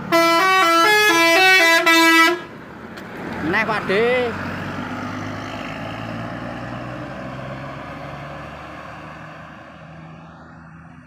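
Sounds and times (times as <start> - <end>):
heavy vehicle passing: 1.1 - 11.0.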